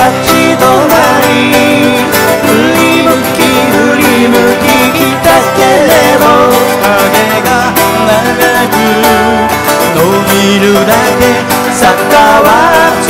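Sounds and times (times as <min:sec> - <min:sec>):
man singing folk song: 0:00.0 - 0:13.0
plucked string instrument: 0:00.0 - 0:13.0
strummed acoustic guitar: 0:00.0 - 0:13.0.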